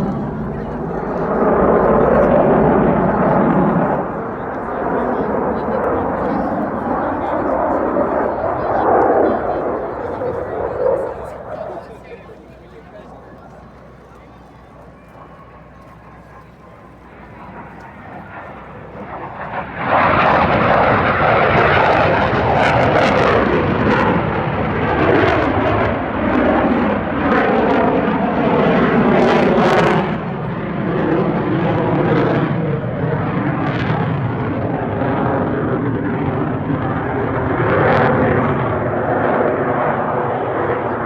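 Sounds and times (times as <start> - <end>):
aircraft flying past: 0.0 - 41.0.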